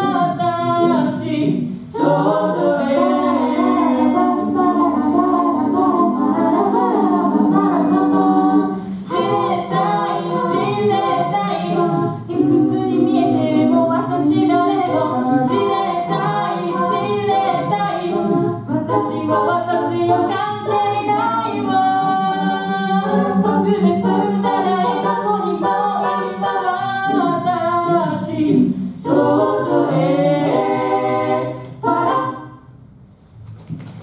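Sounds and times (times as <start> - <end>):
women singing a cappella: 0.0 - 32.8.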